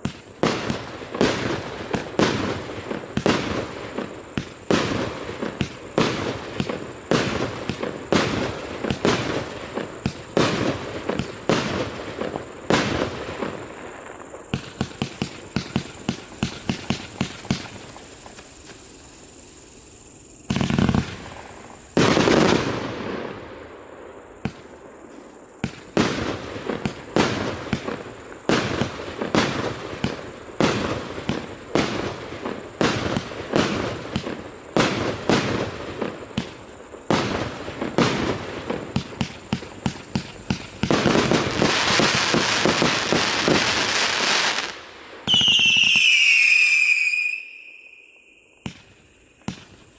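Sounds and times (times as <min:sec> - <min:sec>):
loud fireworks bangs: 0:00.0 - 0:18.4, 0:20.5 - 0:23.6, 0:25.6 - 0:48.0, 0:48.6 - 0:49.8
fireworks crackle: 0:00.0 - 0:49.9.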